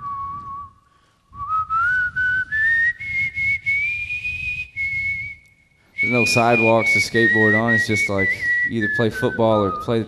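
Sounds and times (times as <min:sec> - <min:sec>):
person whistling a tune: 0:00.0 - 0:10.0.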